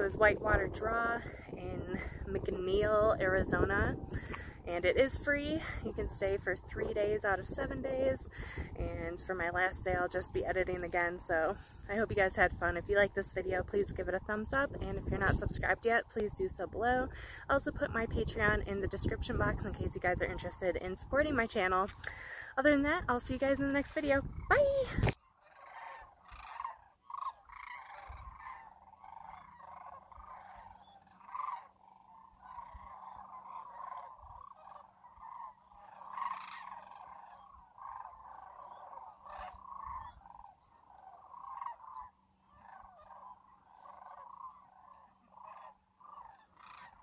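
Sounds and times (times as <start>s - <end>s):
flock of cranes calling: 0.0s - 17.4s, 18.2s - 47.0s.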